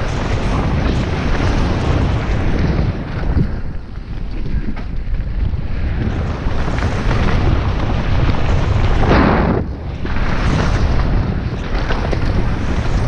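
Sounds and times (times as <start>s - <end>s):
bike tyres rolling on gravel: 0.0s - 13.0s
wind buffeting microphone: 0.0s - 13.0s.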